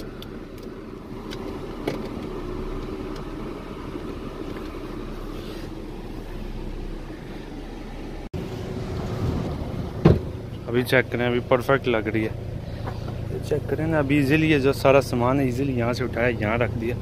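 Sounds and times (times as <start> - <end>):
low car engine rumble: 0.0 - 17.0.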